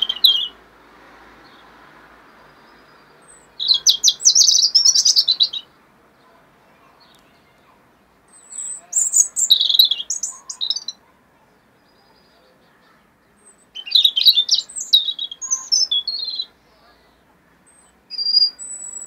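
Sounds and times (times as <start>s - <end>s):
robin singing high notes: 0.0s - 0.6s, 2.4s - 5.8s, 6.6s - 19.0s.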